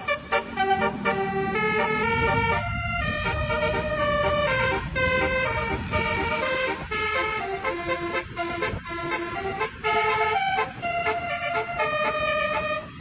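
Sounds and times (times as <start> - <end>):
bus air horns playing a melody: 0.0 - 13.0.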